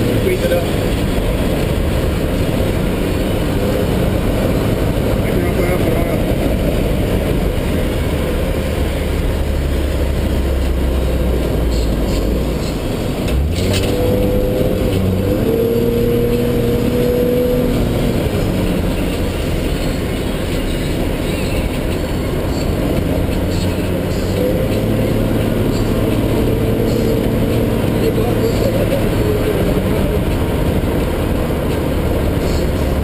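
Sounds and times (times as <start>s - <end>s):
car engine at speed: 0.0s - 33.0s
road noise: 0.0s - 33.0s.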